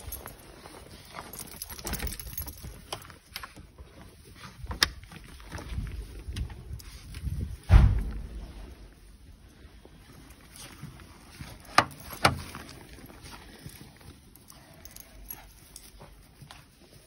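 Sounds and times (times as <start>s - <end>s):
faint handling noise: 0.0s - 17.0s.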